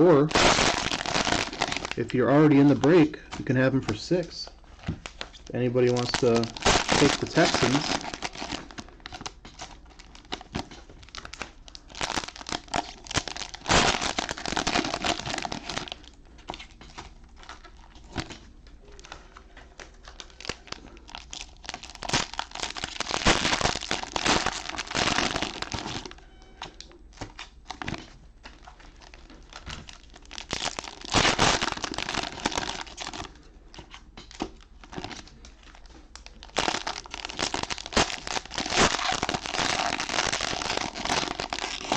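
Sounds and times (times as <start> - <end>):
cellophane tearing: 0.0 - 3.1, 5.0 - 18.3, 20.1 - 26.2, 28.6 - 33.3, 34.3 - 41.9
cellophane wrappers crinkling: 0.0 - 41.9.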